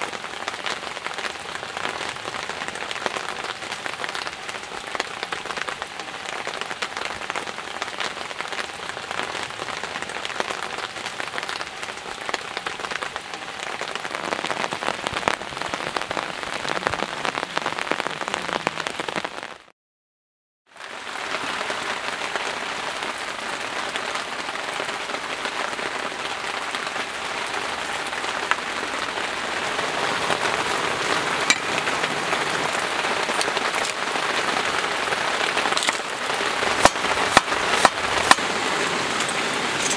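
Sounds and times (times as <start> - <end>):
heavy rain falling: 0.0 - 19.7, 20.7 - 39.9.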